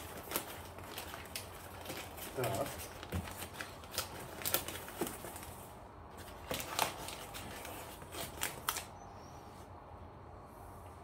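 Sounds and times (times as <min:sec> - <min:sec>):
tissue paper crinkling: 0:00.0 - 0:08.9.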